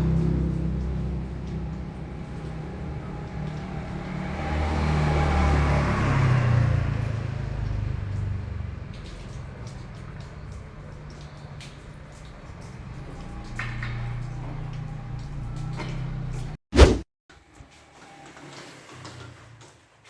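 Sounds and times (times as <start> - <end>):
vehicle engine passing: 0.0 - 16.6.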